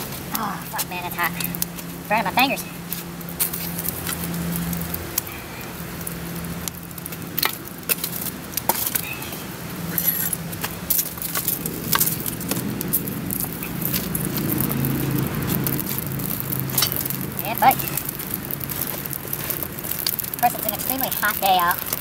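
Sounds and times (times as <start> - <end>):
fire crackling: 0.0 - 22.0
metal shovel scraping coals: 0.0 - 22.0.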